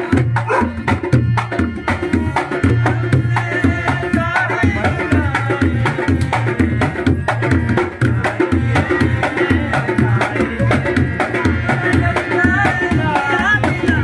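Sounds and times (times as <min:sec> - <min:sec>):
hand drum beat: 0:00.0 - 0:14.0
harmonium melody: 0:00.0 - 0:14.0.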